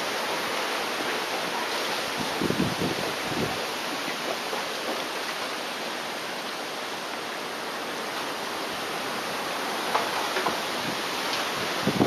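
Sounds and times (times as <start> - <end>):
heavy rain: 0.0 - 12.0
strong wind through trees: 0.0 - 12.0.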